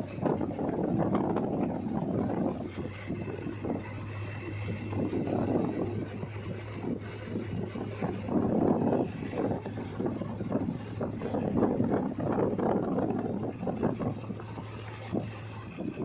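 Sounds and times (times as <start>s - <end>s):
diesel engine running: 0.0s - 16.0s
wind on microphone: 0.0s - 16.0s.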